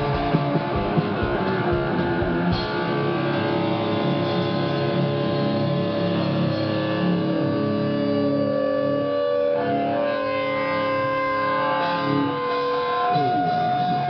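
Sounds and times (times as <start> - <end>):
electric guitars sustained chords: 0.0 - 14.0.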